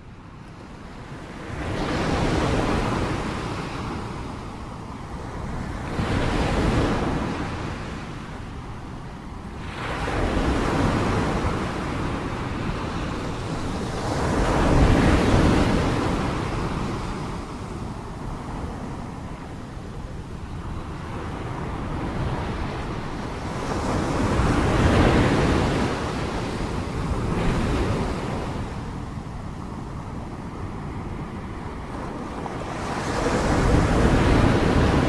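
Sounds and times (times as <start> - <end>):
sea waves washing ashore: 0.0 - 35.0
wind buffeting microphone: 0.2 - 35.0.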